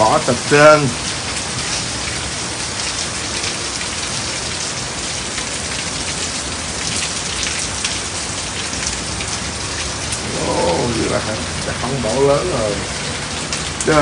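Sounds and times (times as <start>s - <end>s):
close drips and splashes: 0.0s - 14.0s
heavy rain pouring: 0.0s - 14.0s.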